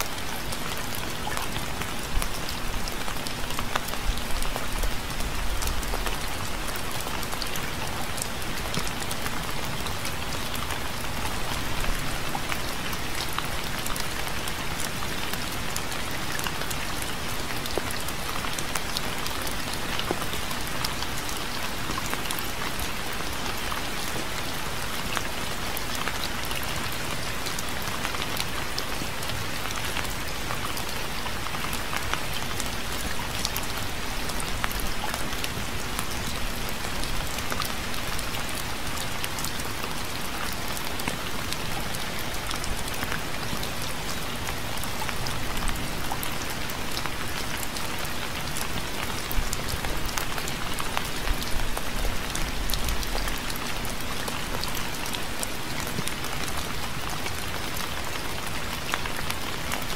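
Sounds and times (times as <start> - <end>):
raindrops ticking close by: 0.0 - 59.9
steady rain hiss: 0.0 - 59.9.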